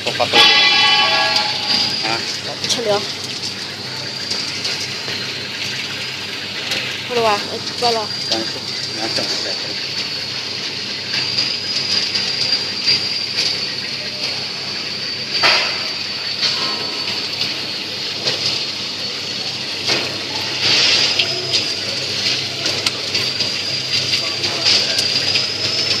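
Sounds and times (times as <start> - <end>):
high wavering whine: 0.0 - 26.0
rotating pan rattling rush: 0.0 - 26.0.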